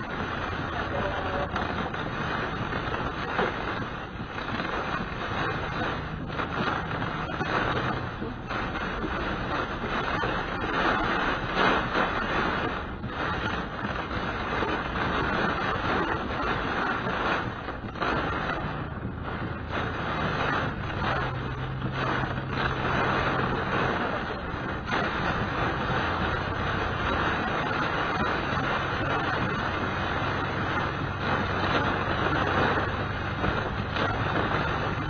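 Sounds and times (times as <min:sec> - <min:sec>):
car engine humming: 0:00.0 - 0:35.0
rain and tyres hissing on wet road: 0:00.0 - 0:35.0.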